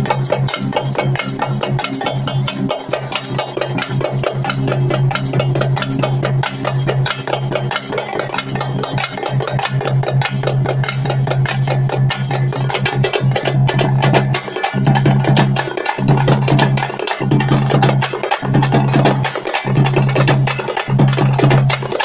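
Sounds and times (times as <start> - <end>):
bass drum: 0.0 - 22.0
frame drums beaten with sticks: 0.0 - 22.0.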